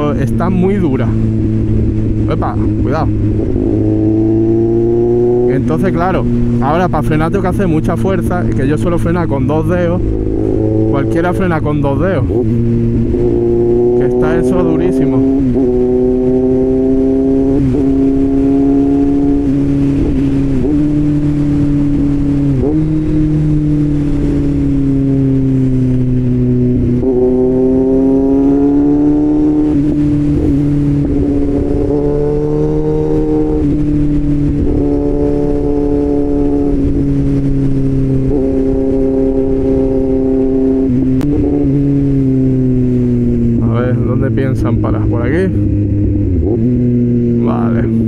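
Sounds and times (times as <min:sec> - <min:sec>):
motorcycle engine running: 0:00.0 - 0:48.0
wind noise: 0:00.0 - 0:48.0.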